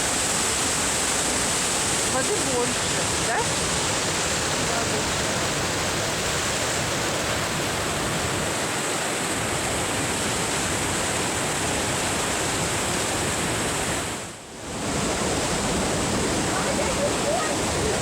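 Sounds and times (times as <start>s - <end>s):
waterfall pouring over rock: 0.0s - 18.0s.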